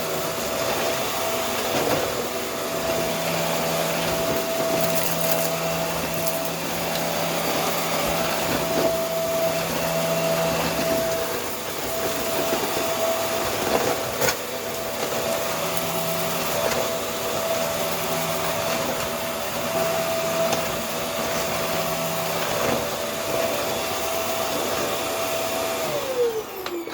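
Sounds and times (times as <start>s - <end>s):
vacuum cleaner running: 0.0s - 26.9s.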